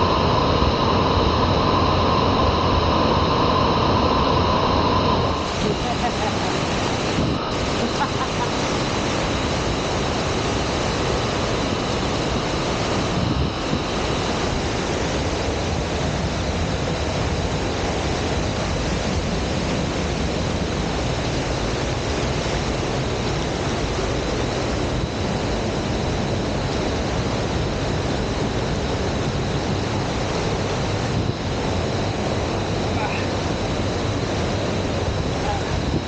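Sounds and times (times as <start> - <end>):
faint high whine: 0.0 - 36.0
steady rushing noise: 0.0 - 36.0.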